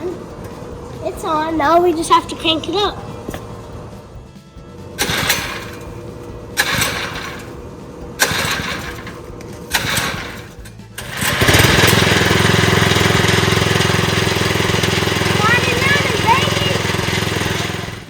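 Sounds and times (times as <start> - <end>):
recoil rope pulls: 0.0 - 18.0
small engine idling fast: 0.0 - 18.0.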